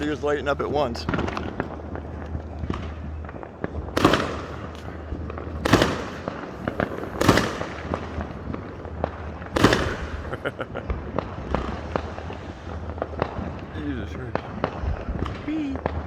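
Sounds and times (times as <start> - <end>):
firework pops and crackles: 0.0 - 16.0
loud firework bangs: 0.0 - 16.0.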